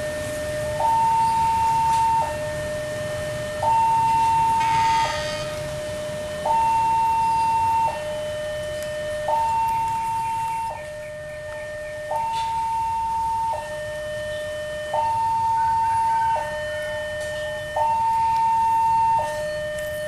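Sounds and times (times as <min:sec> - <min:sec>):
two-tone warning alarm: 0:00.0 - 0:20.0.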